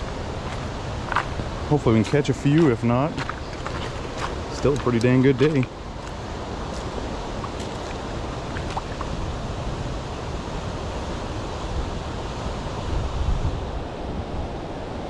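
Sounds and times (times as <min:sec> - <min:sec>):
shallow river rushing over cobbles: 0:00.0 - 0:12.9
wind rumbling on microphone: 0:00.0 - 0:15.0.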